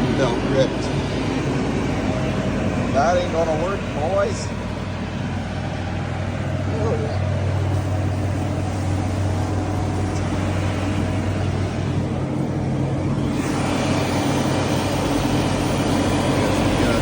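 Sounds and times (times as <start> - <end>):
broad rushing noise: 0.0 - 17.0
engine humming: 0.0 - 17.0.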